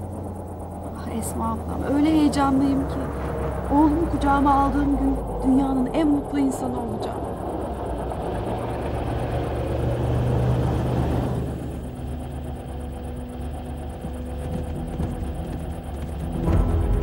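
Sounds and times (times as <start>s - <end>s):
car engine rumble: 0.0s - 17.0s
tyres on dirt road: 0.0s - 17.0s.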